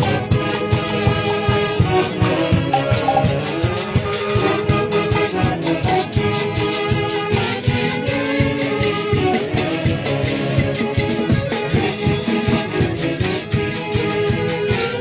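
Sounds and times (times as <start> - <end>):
steady percussive beat: 0.4 - 14.5.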